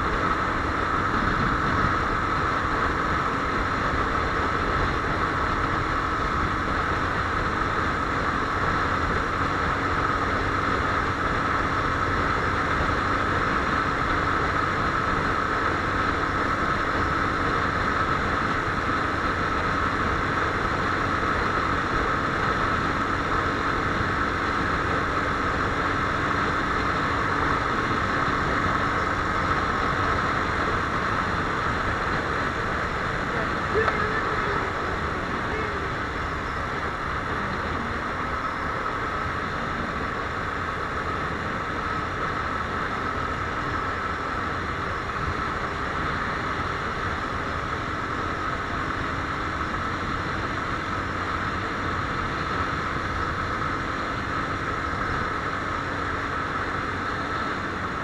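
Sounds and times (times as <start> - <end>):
motorcycle engine humming: 0.0 - 58.0.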